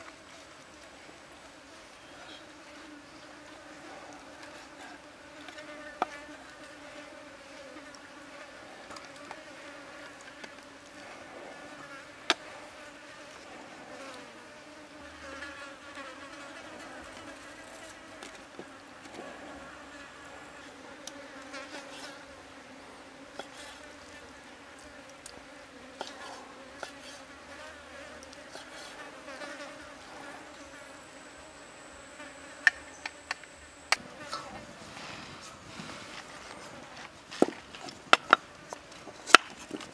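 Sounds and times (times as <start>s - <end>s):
insects buzzing: 0.1s - 37.4s.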